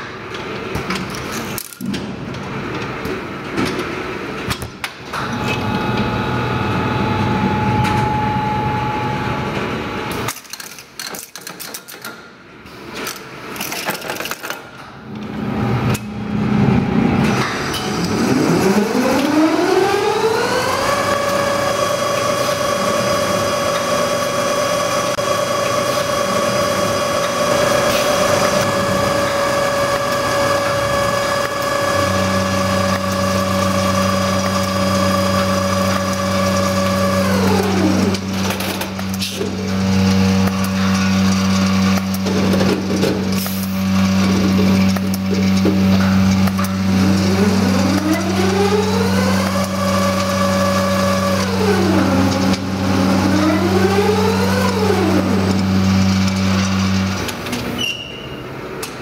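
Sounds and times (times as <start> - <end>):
winding machine whine: 5.2 - 10.2, 15.4 - 58.4.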